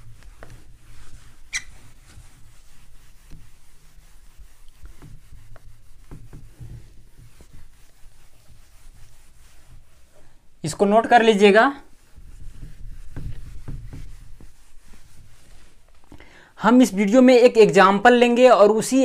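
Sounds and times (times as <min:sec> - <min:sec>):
hand rubbing on whiteboard: 0:00.0 - 0:16.0.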